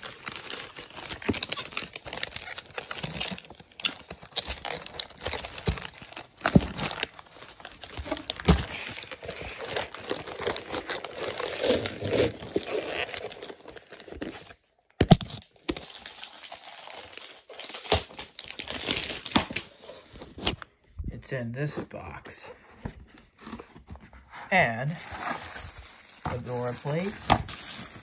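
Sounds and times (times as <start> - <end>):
packaging crinkling and tearing: 0.0 - 20.7, 22.9 - 28.0.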